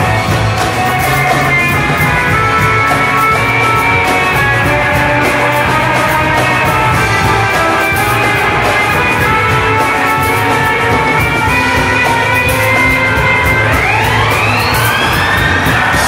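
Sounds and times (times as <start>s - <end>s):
electric guitar: 0.0s - 16.0s
lap steel guitar: 0.0s - 16.0s
live rock band playing: 0.0s - 16.0s.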